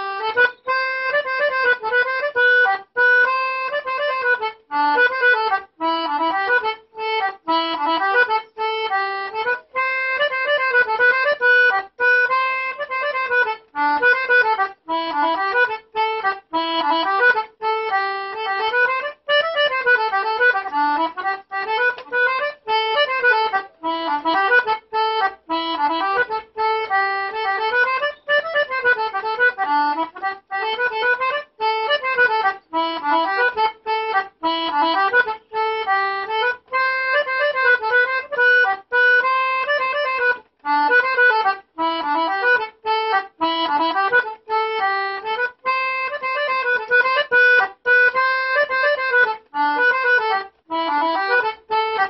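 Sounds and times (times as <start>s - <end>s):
concertina folk melody: 0.0s - 52.0s.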